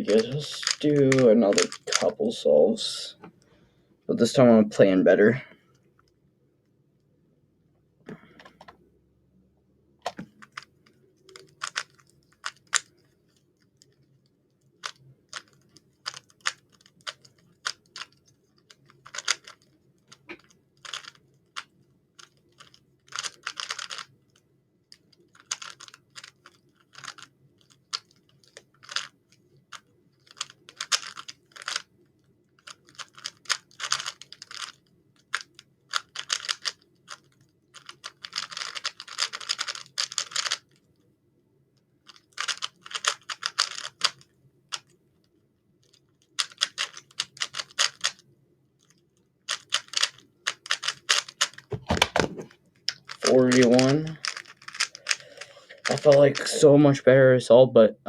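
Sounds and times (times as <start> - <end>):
puzzle cube clicking and rattling: 0.0 - 2.9, 10.1 - 41.0, 42.0 - 45.0, 45.8 - 48.2, 48.8 - 56.7.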